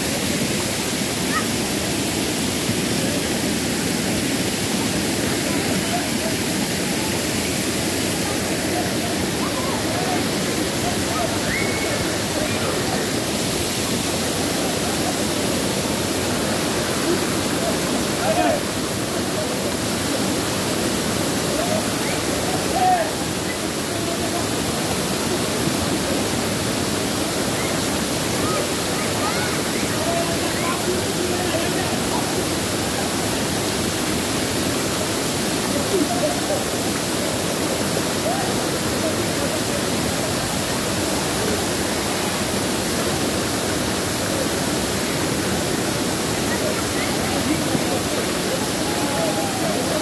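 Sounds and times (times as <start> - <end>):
waterfall rushing into pool: 0.0 - 50.0.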